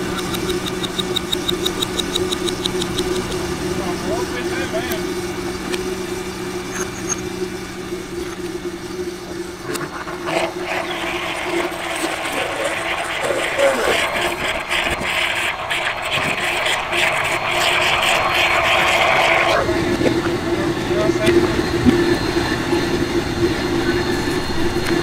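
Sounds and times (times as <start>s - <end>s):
blender motor hum: 0.0s - 25.0s
whirring hiss of juice blending: 0.0s - 25.0s.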